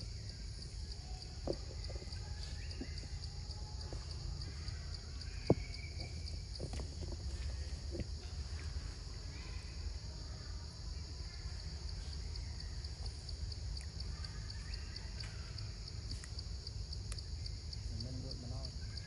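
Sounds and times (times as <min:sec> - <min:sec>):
pulsing insect chorus: 0:00.0 - 0:19.0.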